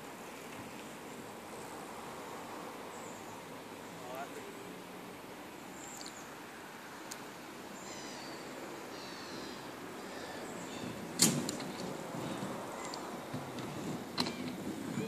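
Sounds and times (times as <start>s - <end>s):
skate wheels rolling on asphalt: 0.0s - 15.0s.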